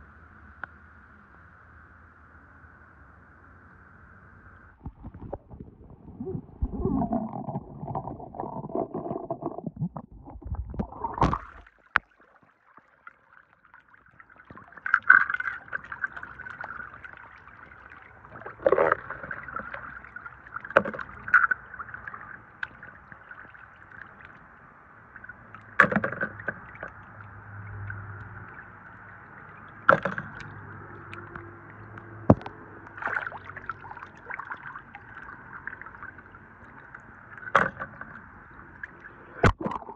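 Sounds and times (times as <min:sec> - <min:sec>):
water splashing in a basin: 0:04.8 - 0:24.4, 0:25.2 - 0:39.9.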